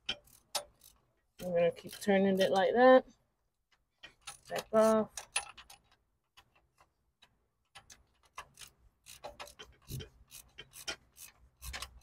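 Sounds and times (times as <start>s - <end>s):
metal clicks of hand tool on nut: 0.0s - 2.8s, 3.6s - 12.0s.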